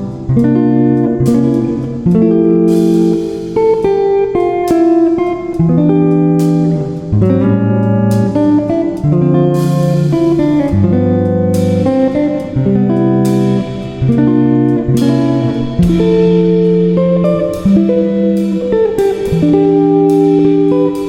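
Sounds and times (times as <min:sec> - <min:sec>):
guitar chords: 0:00.0 - 0:21.0.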